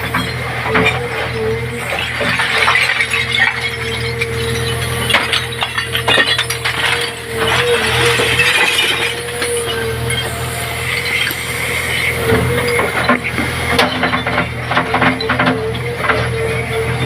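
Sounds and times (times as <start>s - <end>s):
heavy machine engine running: 0.0s - 17.0s.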